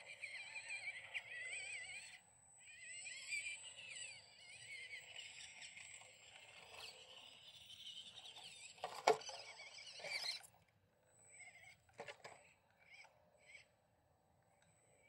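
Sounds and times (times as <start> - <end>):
small electric motor whining: 0.0 - 13.7.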